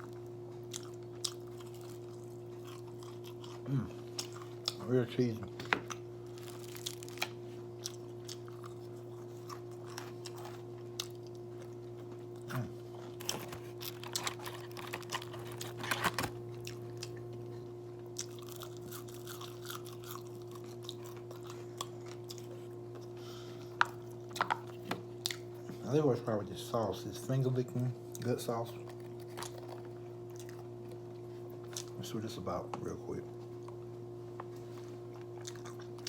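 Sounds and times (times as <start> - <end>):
person chewing crunchy food: 0.0 - 4.9, 5.8 - 25.6, 28.1 - 32.0, 34.5 - 36.0
steady low hum: 0.0 - 36.0.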